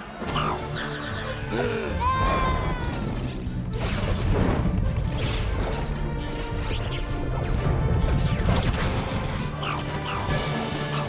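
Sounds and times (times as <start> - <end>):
loud film music: 0.0 - 11.0.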